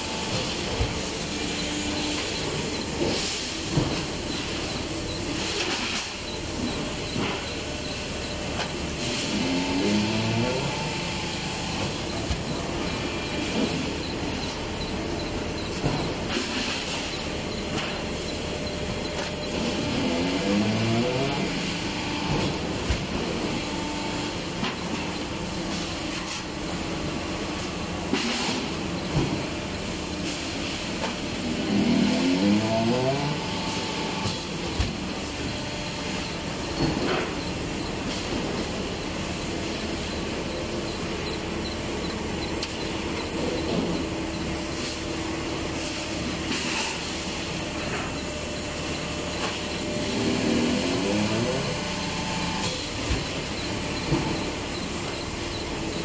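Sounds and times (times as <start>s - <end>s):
hydraulic press machinery running: 0.0s - 56.0s.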